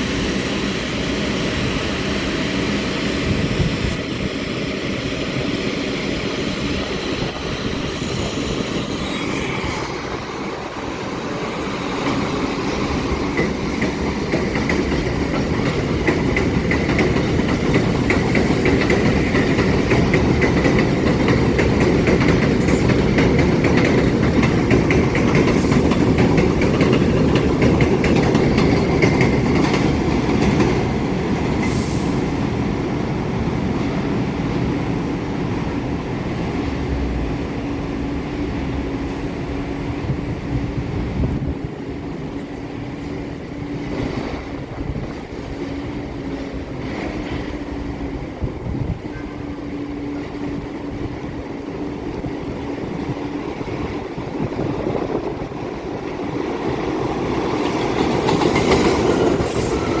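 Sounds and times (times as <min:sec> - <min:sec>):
train rumbling and clattering on rails: 0:00.0 - 1:00.0.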